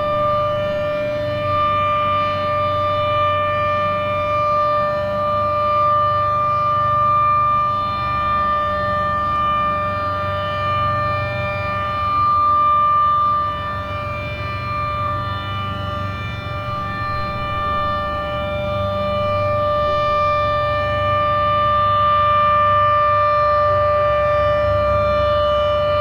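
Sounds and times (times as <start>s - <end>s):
warning siren steady tone: 0.0s - 26.0s.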